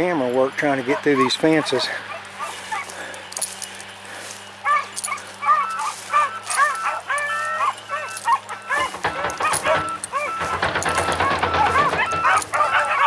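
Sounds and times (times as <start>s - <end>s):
dogs baying and yelping: 0.7s - 13.0s.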